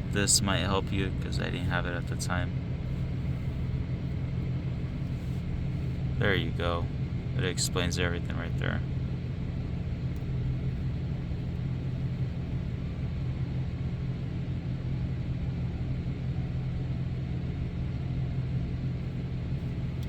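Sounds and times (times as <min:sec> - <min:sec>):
pickup truck engine idling: 0:00.0 - 0:20.0.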